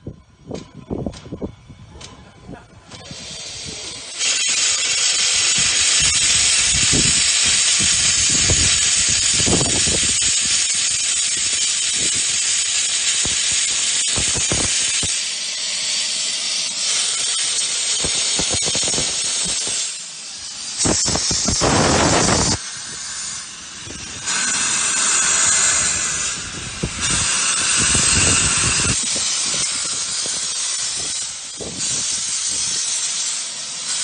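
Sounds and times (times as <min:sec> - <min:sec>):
steam locomotive venting steam: 0:00.0 - 0:34.0.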